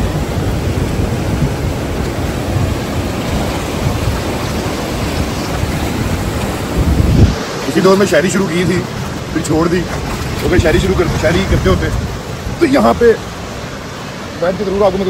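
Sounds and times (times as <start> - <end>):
deep water rumble: 0.0 - 15.0
river rapids rushing over rocks: 0.0 - 15.0.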